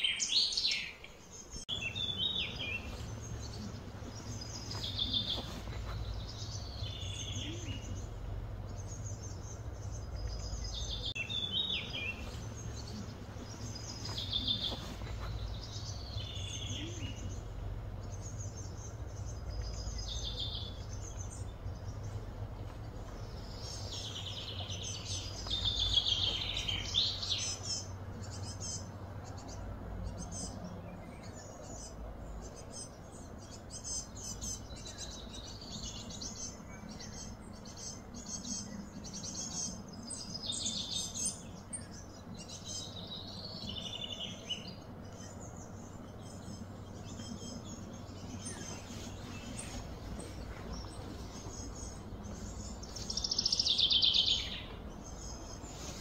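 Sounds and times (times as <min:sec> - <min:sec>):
birds chirping: 0:00.0 - 0:56.0
low background rumble: 0:01.1 - 0:56.0.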